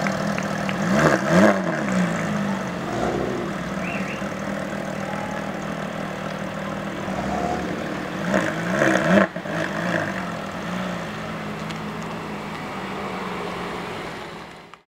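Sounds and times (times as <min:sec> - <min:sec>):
sports car engines revving: 0:00.0 - 0:14.8.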